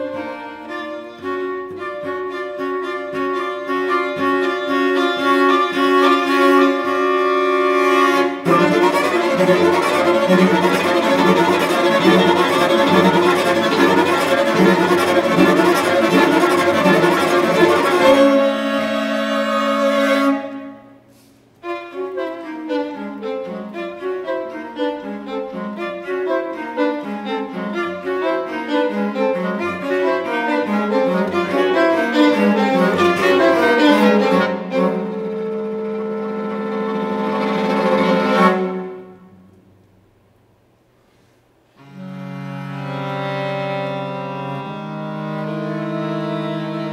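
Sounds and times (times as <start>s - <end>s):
chamber music quartet: 0.0s - 46.9s.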